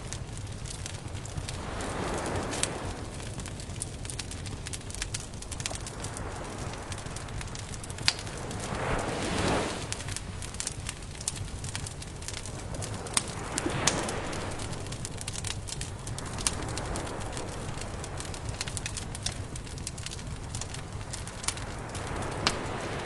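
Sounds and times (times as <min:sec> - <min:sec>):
campfire crackling and popping: 0:00.0 - 0:23.0
surf washing in: 0:00.0 - 0:23.0.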